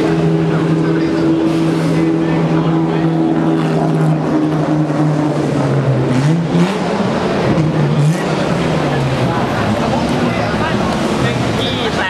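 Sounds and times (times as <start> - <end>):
engine throttle blips: 0.0 - 12.0
racing car engine idling: 0.0 - 12.0.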